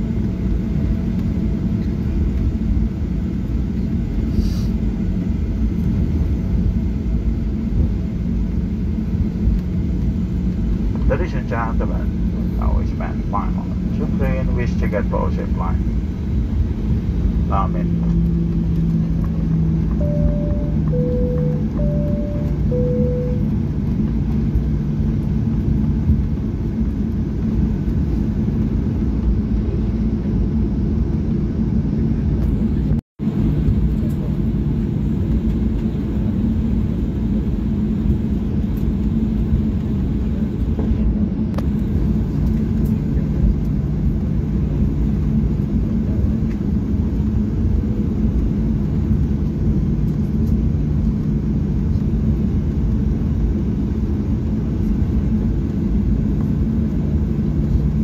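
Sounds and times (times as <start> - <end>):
airplane cabin hum and rumble: 0.0 - 58.0.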